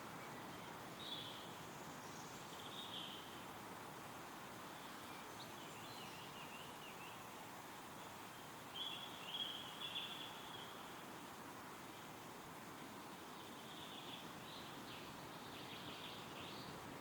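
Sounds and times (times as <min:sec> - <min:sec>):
songbirds twittering: 0:00.0 - 0:17.0
wind rustling through trees: 0:00.0 - 0:17.0.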